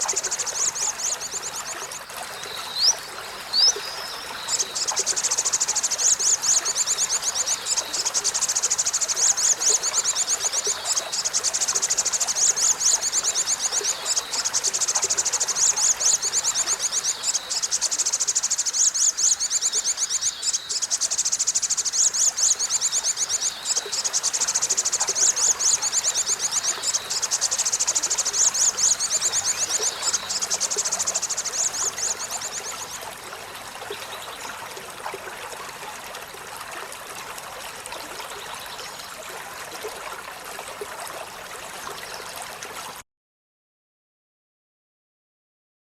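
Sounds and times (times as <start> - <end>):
stream trickling: 0.0 - 43.0.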